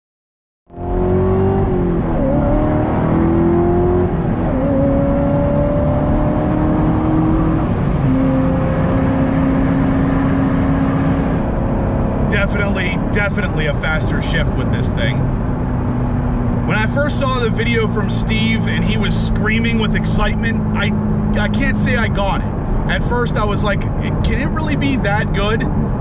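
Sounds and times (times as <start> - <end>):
car engine shifting gears: 0.7 - 26.0.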